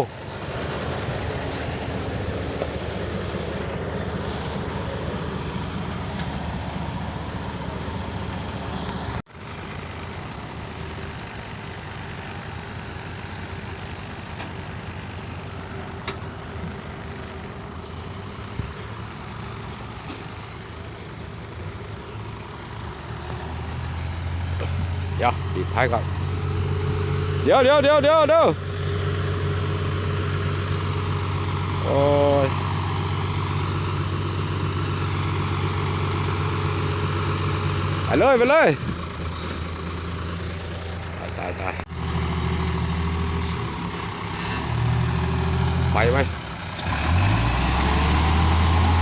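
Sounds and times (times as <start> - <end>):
dump truck diesel engine running: 0.0 - 49.0.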